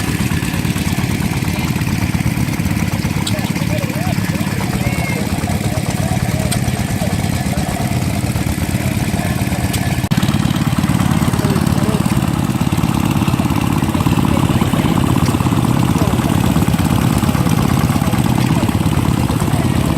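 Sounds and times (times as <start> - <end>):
engine running steadily: 0.0 - 19.9
faint voices: 0.0 - 19.9.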